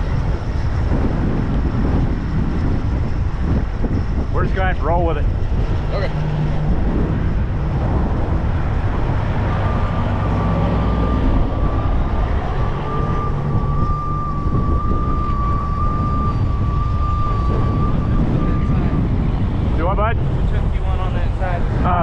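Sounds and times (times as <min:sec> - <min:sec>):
heavy truck machinery running: 0:00.0 - 0:22.0
steady high whine: 0:00.0 - 0:22.0
wind rumbling on microphone: 0:00.0 - 0:22.0.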